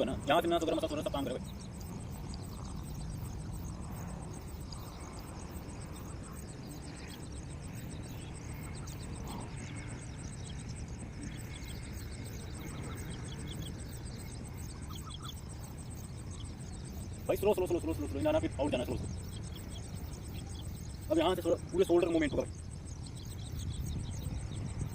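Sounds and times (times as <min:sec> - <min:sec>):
small birds chirping: 0:00.0 - 0:24.9
steady low rumble: 0:00.0 - 0:24.9.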